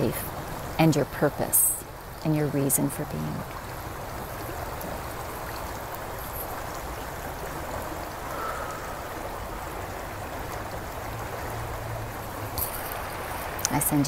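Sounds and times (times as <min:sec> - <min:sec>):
river water rushing over rocks: 0:00.0 - 0:14.0.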